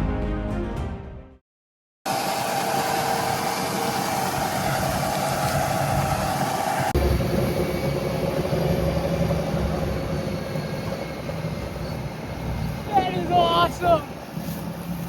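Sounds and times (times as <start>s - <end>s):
farm machinery engine running: 2.1s - 15.0s.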